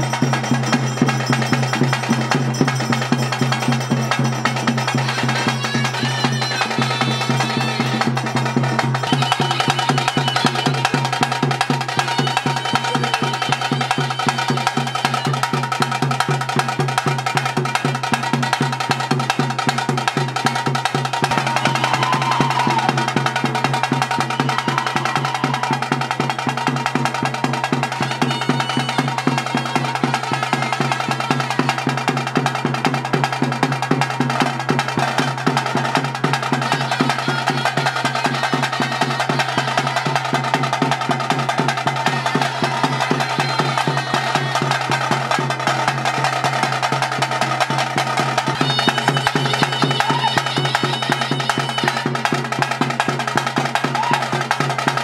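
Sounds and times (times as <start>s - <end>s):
rapid steady drumming: 0.0s - 55.0s.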